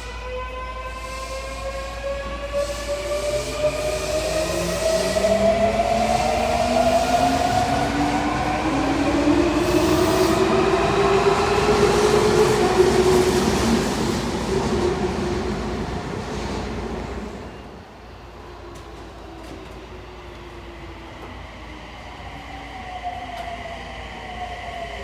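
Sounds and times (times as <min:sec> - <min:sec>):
train running and rail noise: 0:00.0 - 0:25.0.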